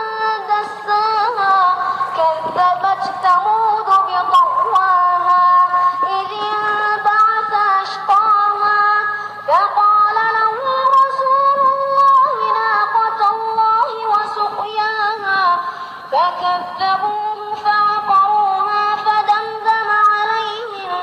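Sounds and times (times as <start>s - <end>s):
high voice chanting recitation: 0.0s - 21.0s.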